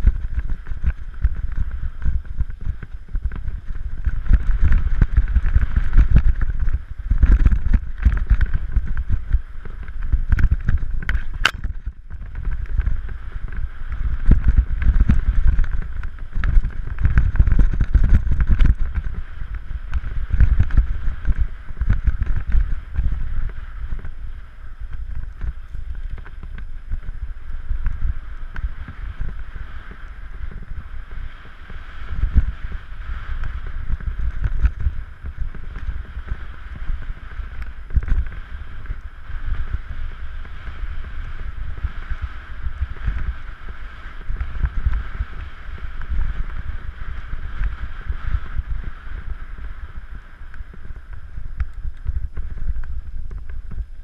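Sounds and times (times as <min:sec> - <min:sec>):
steady rushing noise: 0:00.0 - 0:54.0
wind buffeting microphone: 0:00.0 - 0:54.0.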